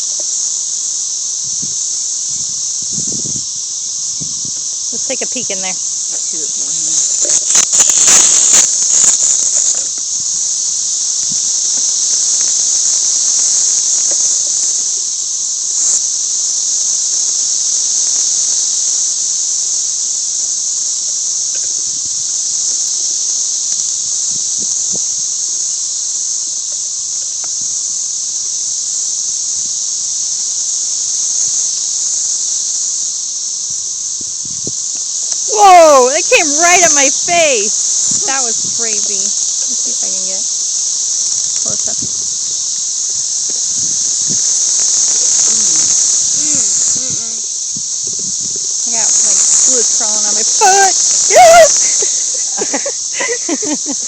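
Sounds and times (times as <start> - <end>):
cicadas buzzing: 0.0 - 54.0.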